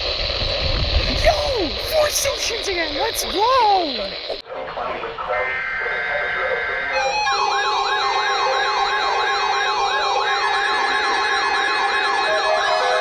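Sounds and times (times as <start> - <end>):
steady alarm tones: 0.0 - 4.4, 7.0 - 13.0.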